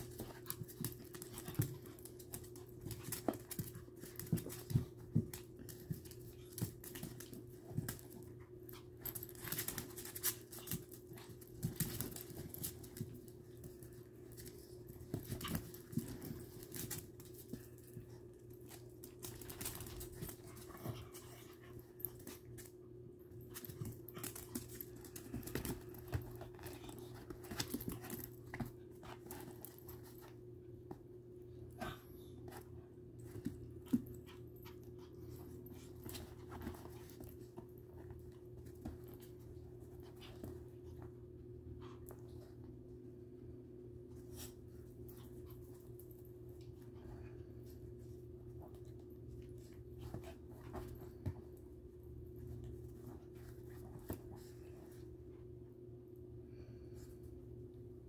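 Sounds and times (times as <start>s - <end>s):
dogs scuffling on floor: 0.0s - 31.0s, 31.9s - 41.2s, 44.1s - 55.2s.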